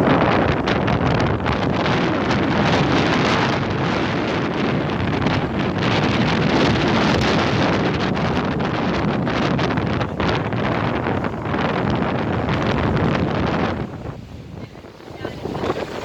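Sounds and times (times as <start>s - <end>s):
boat engine: 0.0s - 16.0s
water rushing: 0.0s - 16.0s
wind buffeting the microphone: 0.0s - 16.0s.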